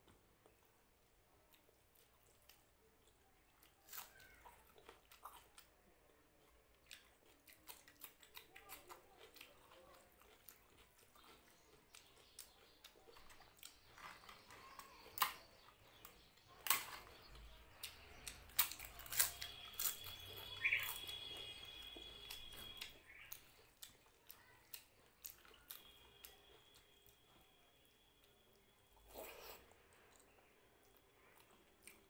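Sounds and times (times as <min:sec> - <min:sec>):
crisp crunching and chewing: 0:01.4 - 0:32.0.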